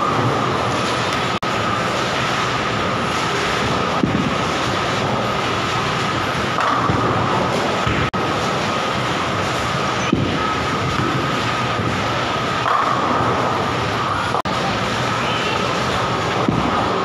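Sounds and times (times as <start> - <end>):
bowling ball rolling: 0.0 - 15.0
bowling alley din and hum: 0.0 - 17.0.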